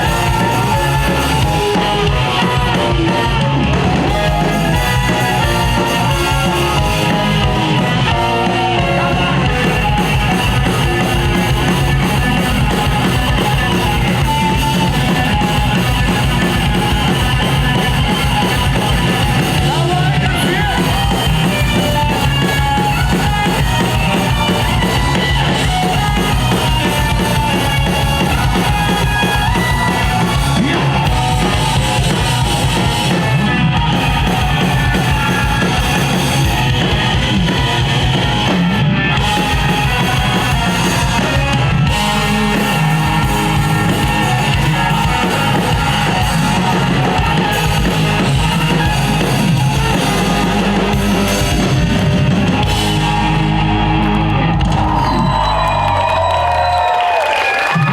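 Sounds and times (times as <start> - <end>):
rock band playing: 0.0 - 57.9.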